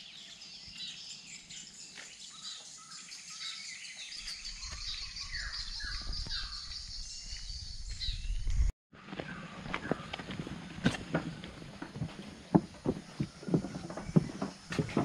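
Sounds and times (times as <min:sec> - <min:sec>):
wild birds calling: 0:00.0 - 0:08.3, 0:09.0 - 0:15.0.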